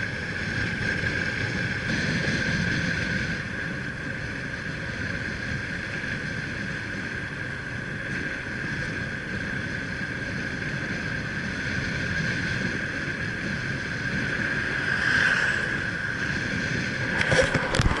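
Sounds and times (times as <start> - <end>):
constant high whine: 0.0 - 18.0
engine running: 0.0 - 18.0
rushing wind noise: 0.0 - 18.0.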